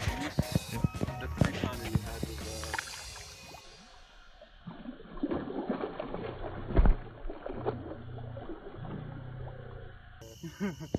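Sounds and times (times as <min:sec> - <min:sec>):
water splashing in shallows: 0:00.2 - 0:09.7.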